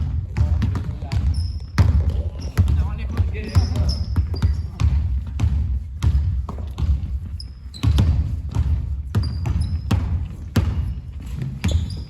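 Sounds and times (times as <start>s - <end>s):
basketballs bouncing on gym floor: 0.0s - 12.0s
sneaker soles squeaking: 0.2s - 12.0s.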